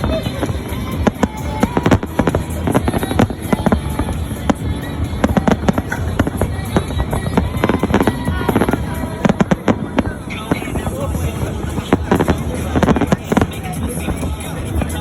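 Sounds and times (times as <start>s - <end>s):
fireworks banging: 0.0s - 15.0s
music: 0.0s - 15.0s.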